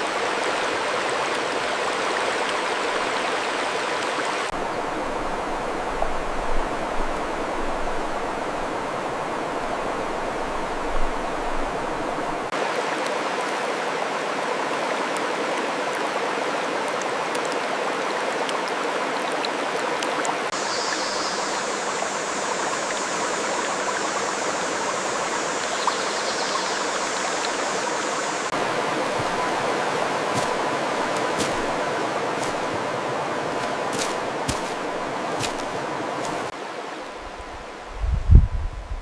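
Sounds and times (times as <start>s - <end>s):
running water rushing: 0.0s - 38.4s.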